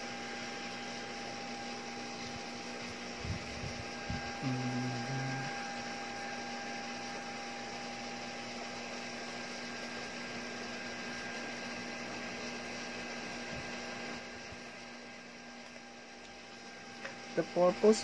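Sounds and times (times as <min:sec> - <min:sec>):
cooling fan humming: 0:00.0 - 0:18.0.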